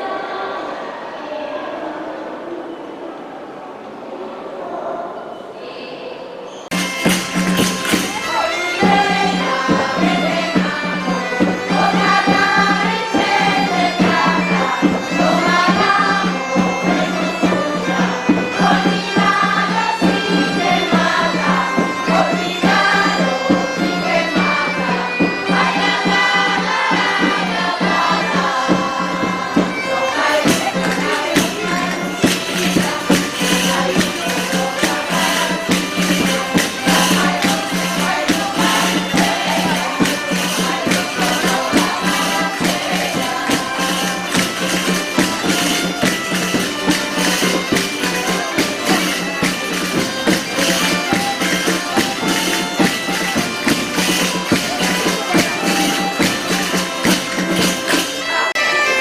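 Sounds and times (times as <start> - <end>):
fast dense percussion: 6.7 - 58.2
bagpipe melody over drone: 6.7 - 59.0.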